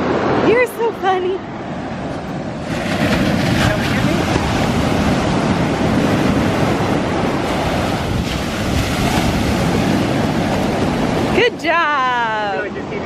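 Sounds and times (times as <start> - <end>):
ocean surf washing ashore: 0.0 - 13.0
wind buffeting microphone: 0.0 - 13.0.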